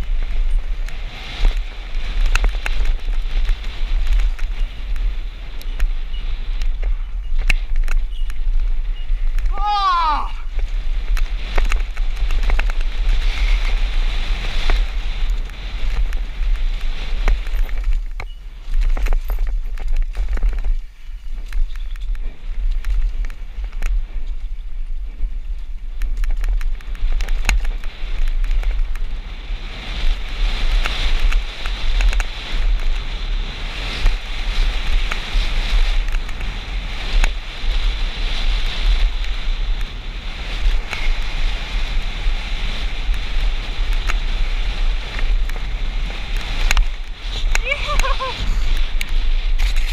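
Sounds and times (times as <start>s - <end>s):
bike rattling: 0.0s - 49.9s
tyres ticking on dirt and stones: 0.0s - 49.9s
wind buffeting microphone: 0.0s - 49.9s.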